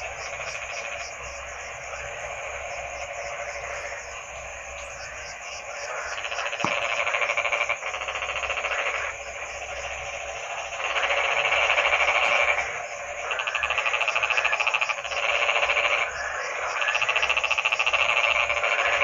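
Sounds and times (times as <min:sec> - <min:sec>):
frogs croaking in chorus: 0:00.0 - 0:19.0.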